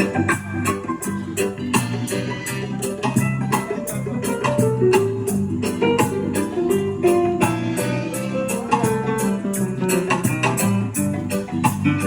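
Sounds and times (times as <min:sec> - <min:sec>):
music through speakers: 0:00.0 - 0:12.0.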